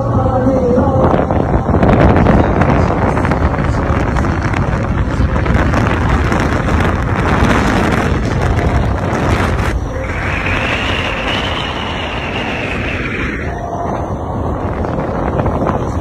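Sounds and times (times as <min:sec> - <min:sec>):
car road noise: 0:00.0 - 0:16.0
wind buffeting microphone: 0:00.0 - 0:16.0.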